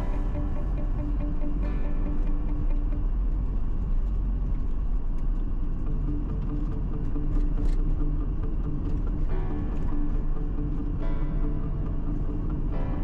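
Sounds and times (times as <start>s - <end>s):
car road and tyre noise: 0.0s - 13.0s.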